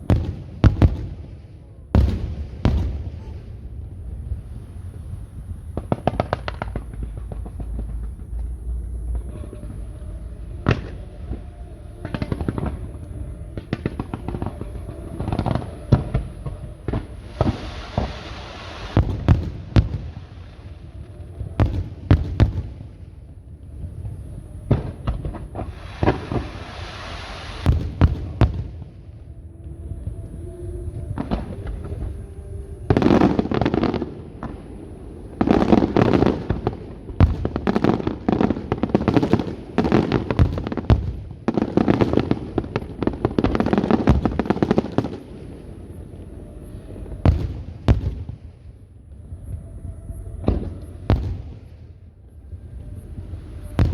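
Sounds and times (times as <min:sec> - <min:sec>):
dense firework crackling: 0:00.0 - 0:53.9.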